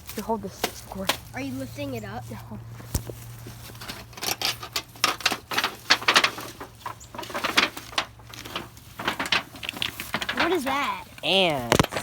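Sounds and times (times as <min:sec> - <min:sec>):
rustling and scraping in debris: 0:00.0 - 0:12.0.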